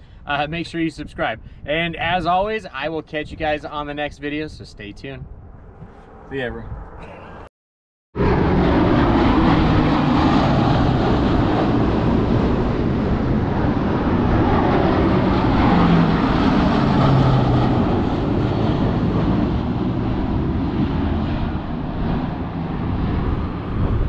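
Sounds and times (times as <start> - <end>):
turboprop plane passing overhead: 0.0 - 7.5, 8.2 - 24.0.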